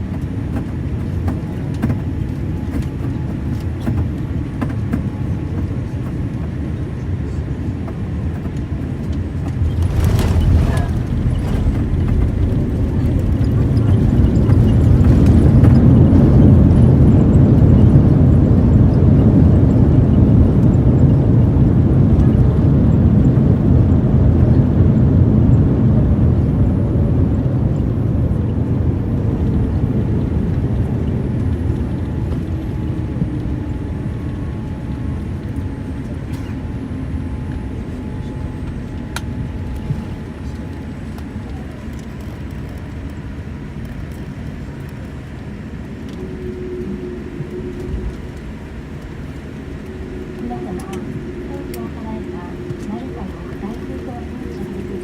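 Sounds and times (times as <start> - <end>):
jet engine whine falling: 0.0 - 55.0
jet engines roaring: 0.0 - 55.0.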